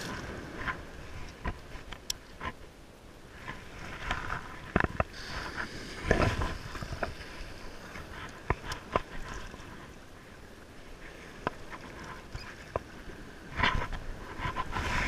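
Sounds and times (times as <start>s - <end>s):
waves washing on sand beach: 0.0s - 15.0s.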